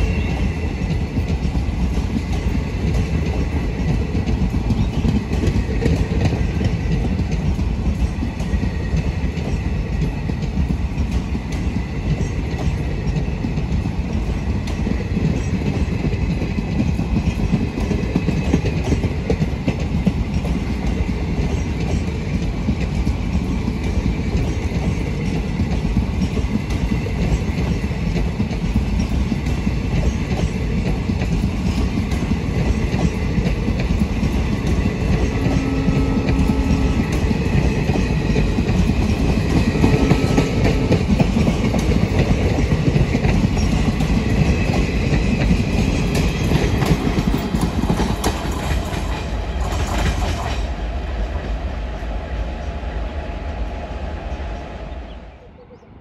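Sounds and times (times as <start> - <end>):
train wheels clattering over rail joints: 0.0 - 50.8.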